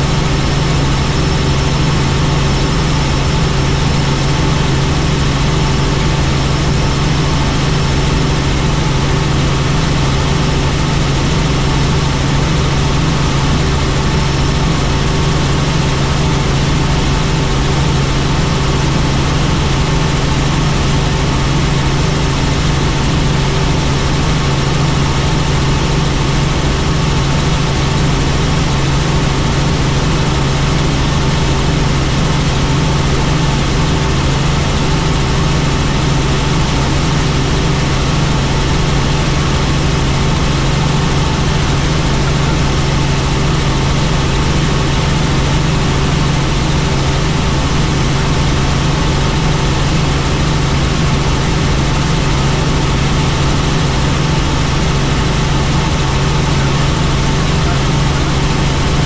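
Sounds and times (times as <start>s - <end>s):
helicopter flying: 0.0s - 59.0s.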